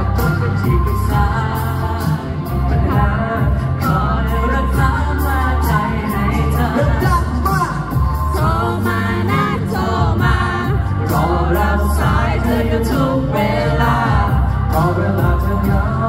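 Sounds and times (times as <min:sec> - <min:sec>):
backing track with beat and bass: 0:00.0 - 0:16.0
person singing pop song: 0:00.0 - 0:16.0.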